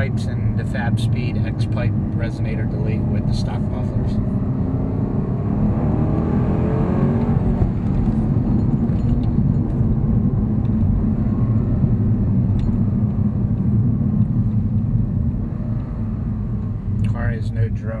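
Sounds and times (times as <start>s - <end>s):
car engine rumble inside cabin: 0.0s - 18.0s.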